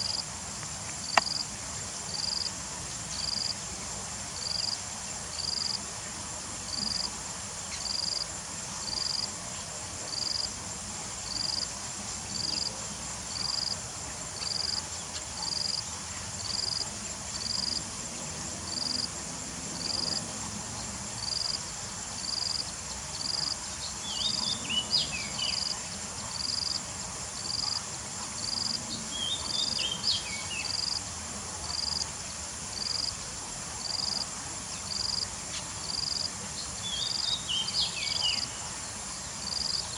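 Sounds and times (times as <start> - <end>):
insect chirping: 0.0 - 39.9
insect drone: 0.0 - 39.9.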